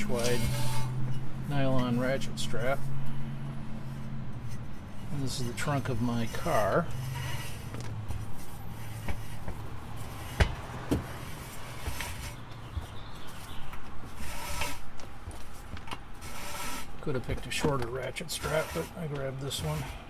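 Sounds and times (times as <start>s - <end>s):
strap webbing rubbing and rustling: 0.0s - 20.0s.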